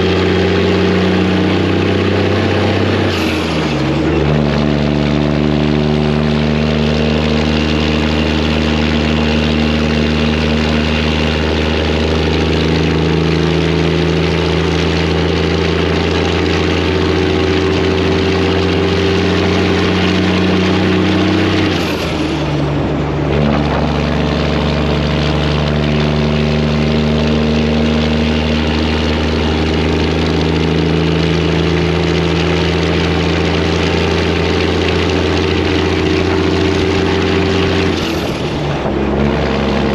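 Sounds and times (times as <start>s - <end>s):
diesel truck engine pulling: 0.0s - 39.9s.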